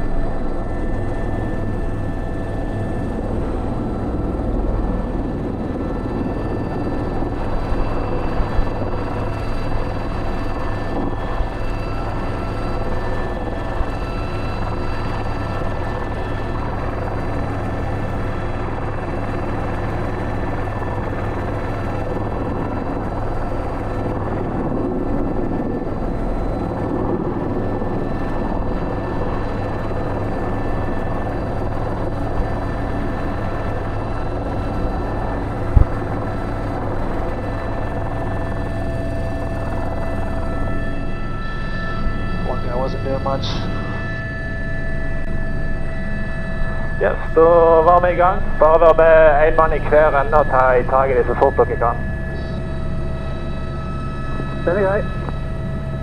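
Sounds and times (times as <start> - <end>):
helicopter drone with whining: 0.0 - 56.0.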